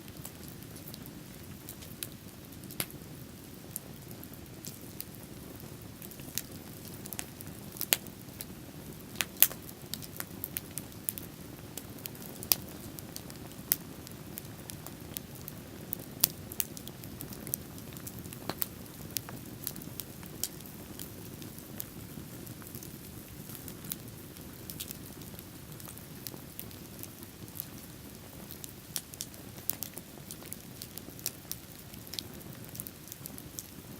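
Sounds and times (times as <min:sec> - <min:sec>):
bonfire crackling and popping: 0:00.0 - 0:33.9.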